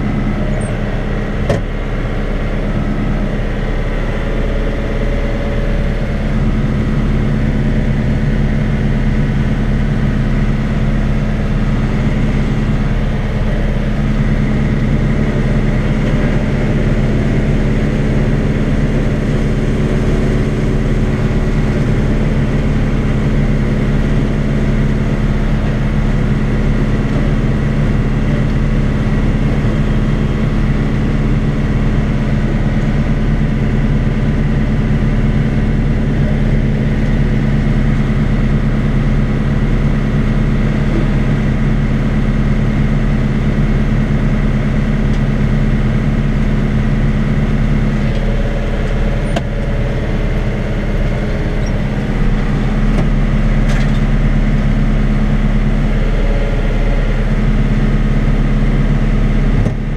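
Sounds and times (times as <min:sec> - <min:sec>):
tractor and straw chopper droning: 0:00.0 - 0:59.9.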